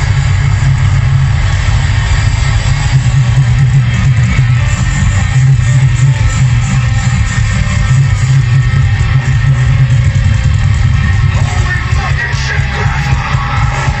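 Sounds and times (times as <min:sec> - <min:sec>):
heavy metal music: 0:00.0 - 0:14.0.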